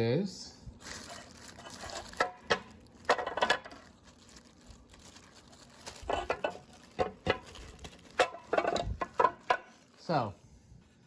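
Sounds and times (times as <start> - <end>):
packaging rustling: 0.8 - 10.3.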